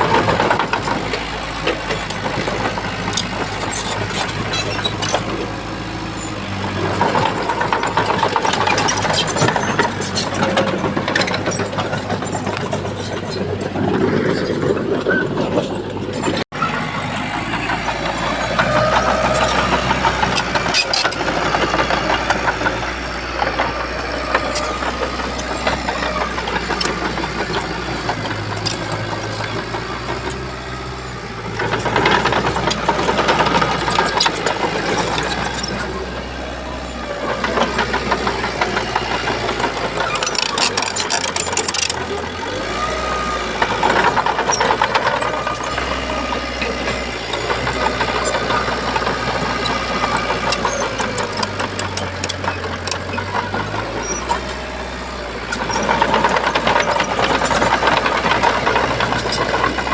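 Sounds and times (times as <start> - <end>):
metallic clanks and rattles: 0.0 - 36.1, 37.3 - 59.9
bulldozer diesel engine running: 0.0 - 59.9.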